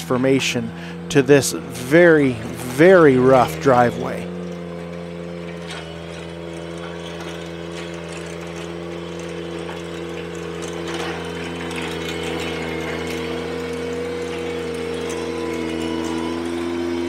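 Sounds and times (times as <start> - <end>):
rake drum churning gravel: 0.0 - 17.0
tractor engine drone: 0.0 - 17.0.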